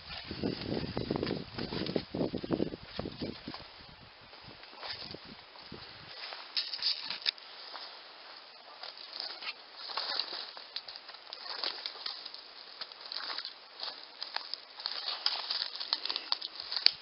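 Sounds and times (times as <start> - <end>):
footsteps crunching through dry brush: 0.0 - 17.0.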